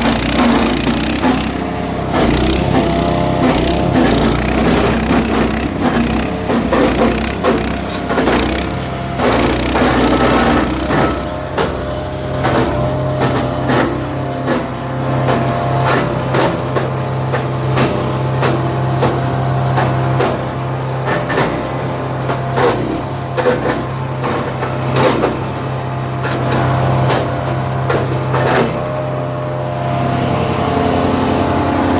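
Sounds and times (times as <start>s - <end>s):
wood cracking in chipper blades: 0.0s - 28.9s
wood chipper engine hum: 0.0s - 31.9s.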